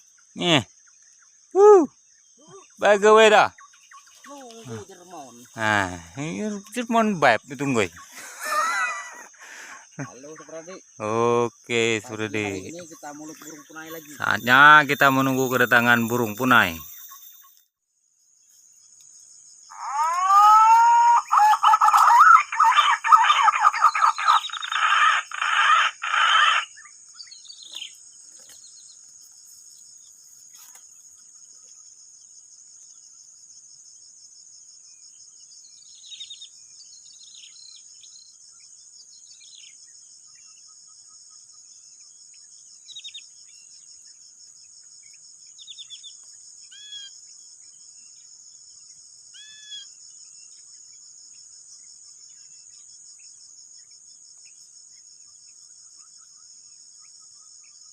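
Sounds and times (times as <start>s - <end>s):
insect chorus: 0.0s - 57.9s.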